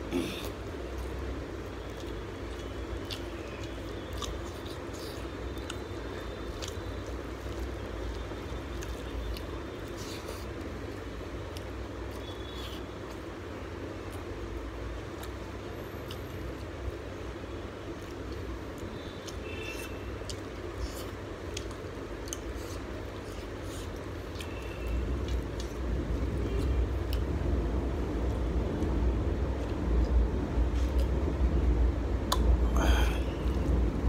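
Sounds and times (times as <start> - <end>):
wet chewing and squishing: 0.4 - 16.8, 17.8 - 27.6, 28.2 - 33.9.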